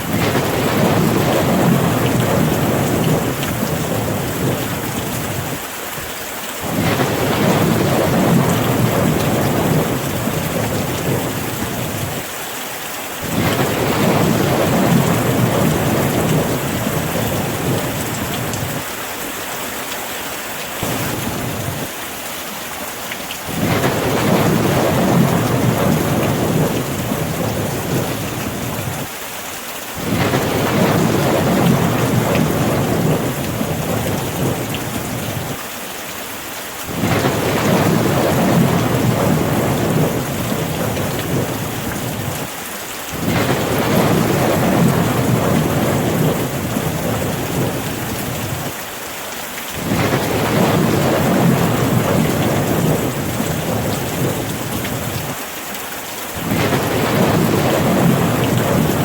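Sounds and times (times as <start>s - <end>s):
rolling thunder: 0.0s - 5.6s, 6.6s - 12.2s, 13.2s - 18.8s, 20.8s - 21.9s, 23.5s - 29.1s, 30.0s - 35.6s, 36.9s - 42.5s, 43.2s - 48.7s, 49.8s - 55.4s, 56.4s - 59.0s
rain hiss: 0.0s - 59.0s.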